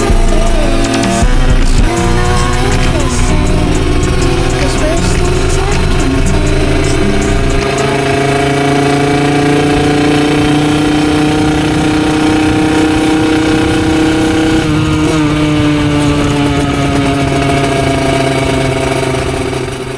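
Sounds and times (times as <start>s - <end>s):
two-stroke engine at high revs: 0.0s - 19.9s.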